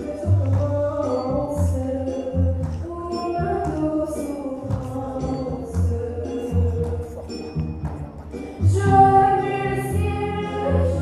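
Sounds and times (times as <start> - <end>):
backing music with bass beat: 0.0 - 10.4.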